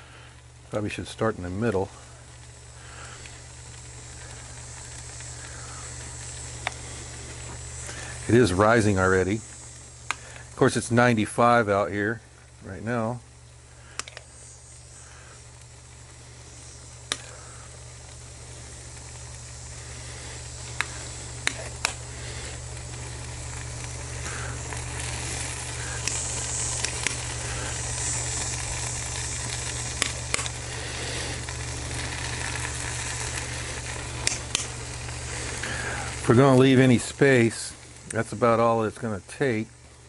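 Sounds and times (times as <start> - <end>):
filling sizzling in a pan: 0.0 - 40.0.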